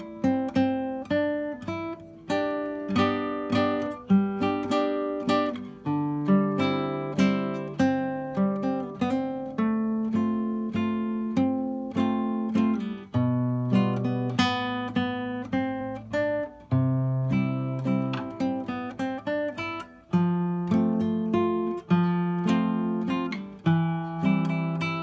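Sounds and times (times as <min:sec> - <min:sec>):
classical guitar playing: 0:00.0 - 0:25.0.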